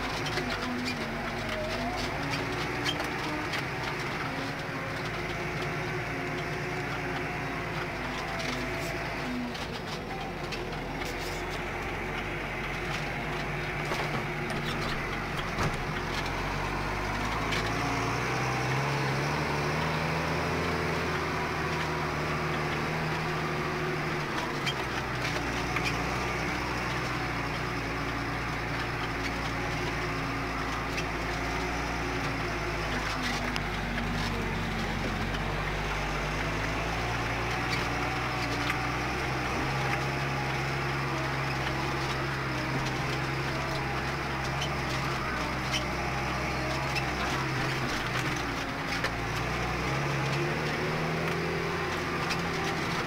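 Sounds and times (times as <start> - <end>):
rattles and knocks: 0.0 - 53.0
tractor engine running under load: 0.0 - 53.0.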